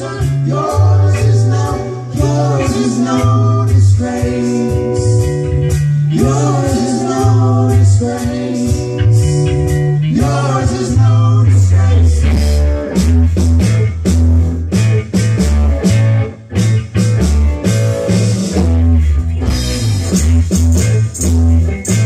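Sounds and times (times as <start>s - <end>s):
live blues-rock band playing: 0.0s - 22.0s.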